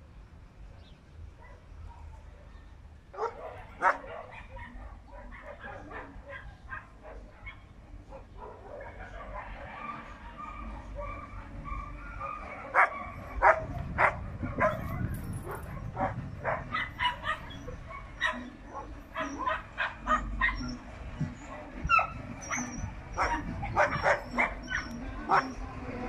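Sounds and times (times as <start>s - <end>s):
dogs barking: 1.4s - 25.7s.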